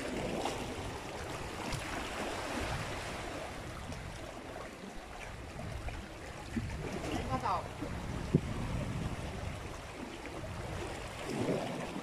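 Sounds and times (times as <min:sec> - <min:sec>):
surf washing among rocks: 0:00.0 - 0:12.0.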